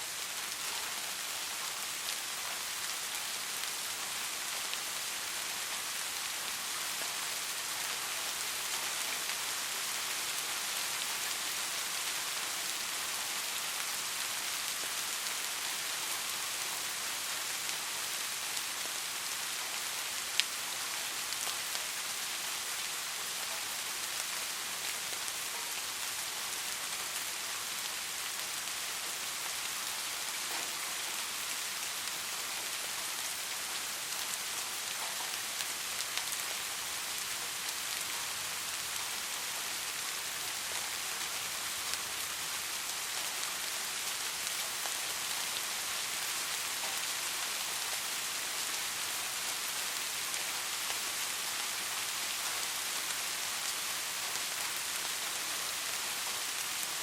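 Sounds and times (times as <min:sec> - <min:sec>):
soft rain: 0:00.0 - 0:57.0.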